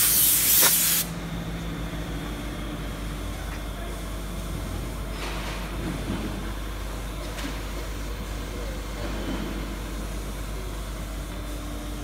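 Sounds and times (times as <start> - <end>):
workshop machinery humming: 0.0 - 12.0.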